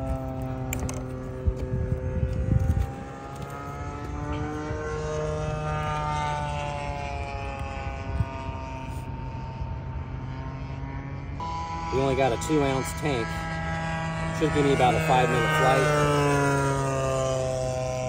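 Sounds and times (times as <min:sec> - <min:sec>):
propeller aircraft engine passing: 0:00.0 - 0:18.0.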